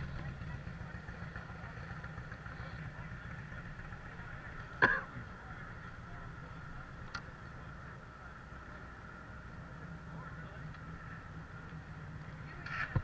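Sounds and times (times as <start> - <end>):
motorcycle engine low rumble: 0.0 - 13.0.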